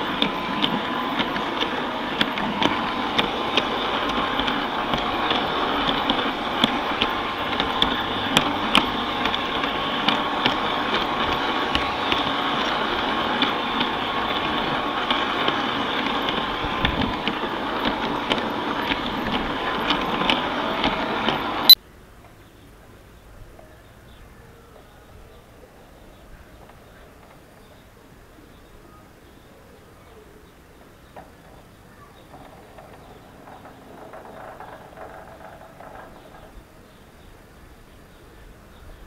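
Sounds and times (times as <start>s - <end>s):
model train wheels rattling: 0.0s - 21.8s, 25.9s - 39.0s.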